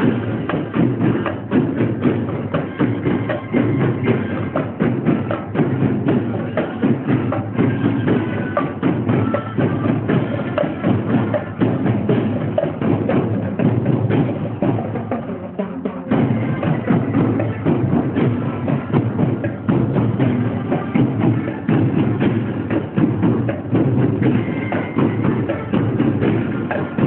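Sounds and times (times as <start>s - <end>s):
marching drums playing: 0.0s - 27.0s.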